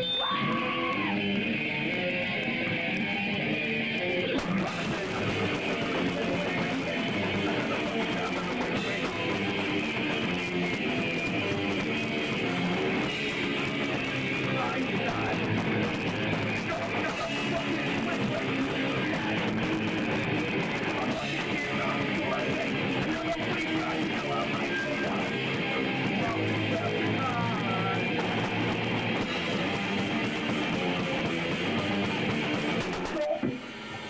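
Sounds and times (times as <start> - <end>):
electric guitar: 0.0 - 34.0
punk rock band playing live: 0.0 - 34.0.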